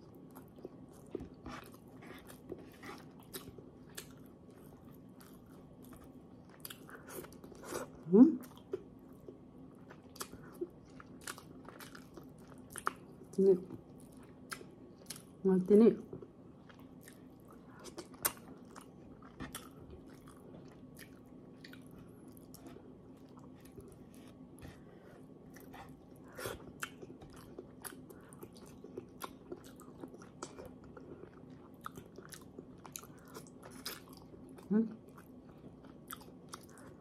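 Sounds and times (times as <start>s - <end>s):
person chewing: 0.0s - 15.4s, 16.2s - 37.0s.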